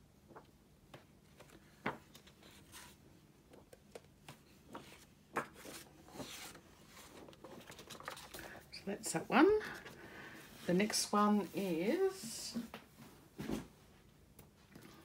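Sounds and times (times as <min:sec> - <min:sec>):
pages rustling: 0:00.3 - 0:12.3.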